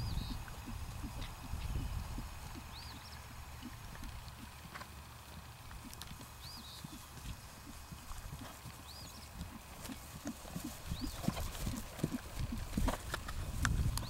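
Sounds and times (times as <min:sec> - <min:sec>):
horse hoofbeats trotting on grass: 0:00.0 - 0:14.0.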